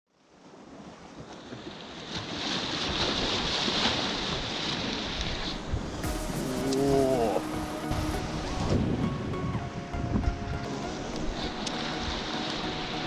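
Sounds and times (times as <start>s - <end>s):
sea waves washing over rocks: 0.4s - 13.0s.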